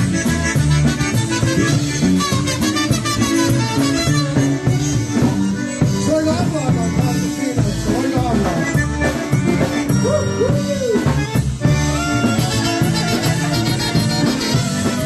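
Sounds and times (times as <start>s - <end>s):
polka band playing: 0.0s - 15.0s.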